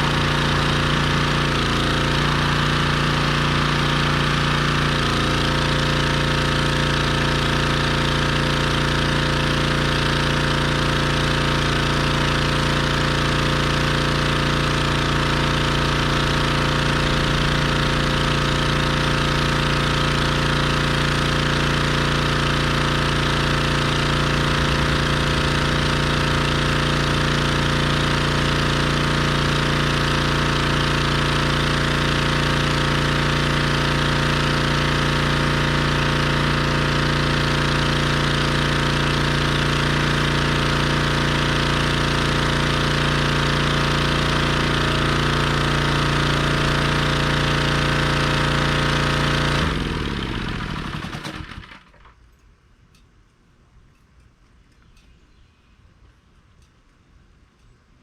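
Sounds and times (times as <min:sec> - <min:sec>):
pressure washer engine running: 0:00.0 - 0:52.2.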